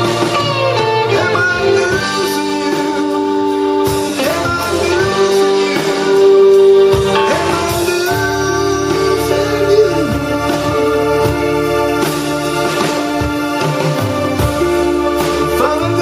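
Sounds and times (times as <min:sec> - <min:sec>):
blues band playing slow ballad: 0:00.0 - 0:16.0
guitar lead with bent notes: 0:00.0 - 0:16.0.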